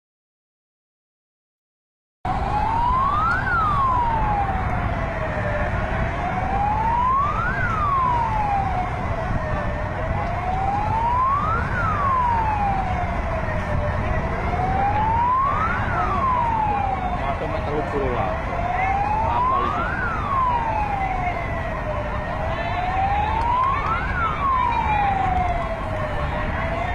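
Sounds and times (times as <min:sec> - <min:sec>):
emergency siren wailing: 0:02.3 - 0:26.9.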